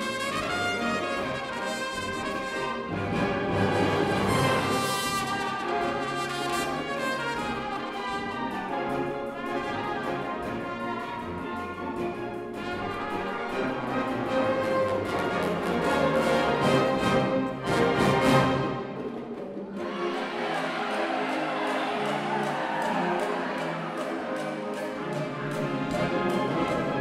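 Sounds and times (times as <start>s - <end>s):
wind orchestra playing: 0.0s - 27.0s.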